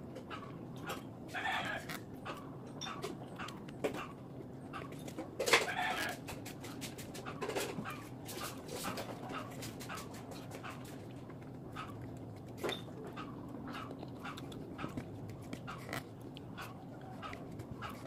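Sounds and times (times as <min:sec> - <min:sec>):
chewing food: 0:00.0 - 0:18.0.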